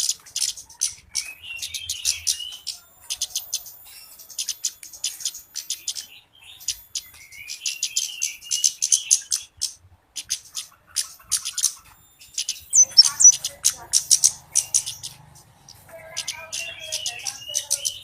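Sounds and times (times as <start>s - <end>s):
bird ticking calls: 0.0s - 18.0s
bird twittering: 0.0s - 18.0s.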